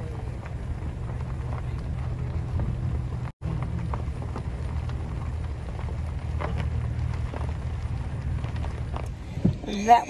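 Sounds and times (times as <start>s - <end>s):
car engine hum from cabin: 0.0s - 10.0s.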